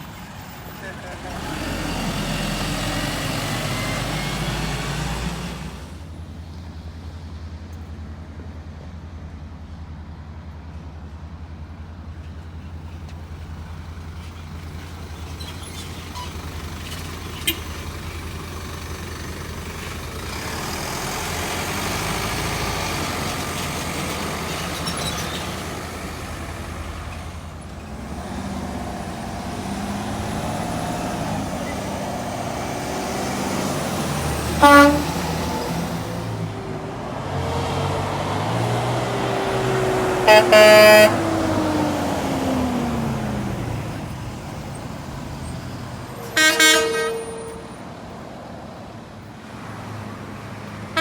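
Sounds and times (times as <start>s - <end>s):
diesel truck engine rumble: 0.0s - 51.0s
passing traffic: 0.0s - 51.0s.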